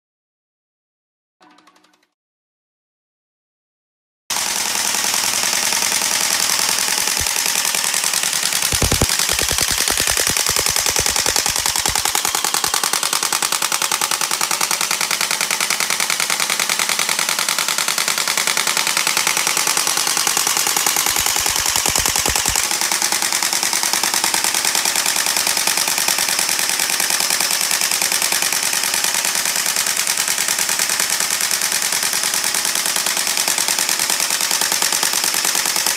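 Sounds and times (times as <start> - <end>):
airsoft rifle firing full auto: 4.3 - 35.9.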